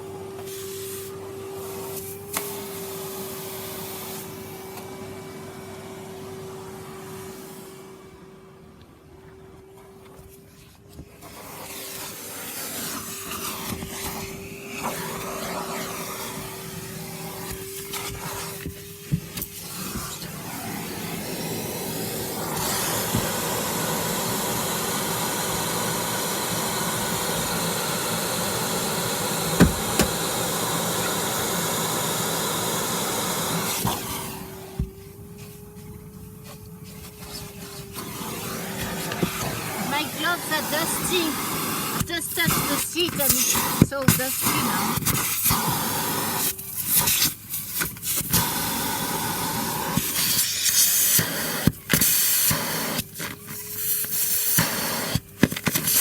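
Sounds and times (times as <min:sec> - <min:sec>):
vacuum cleaner whining: 0:00.0 - 0:56.0
vacuum nozzle scraping: 0:09.9 - 0:56.0.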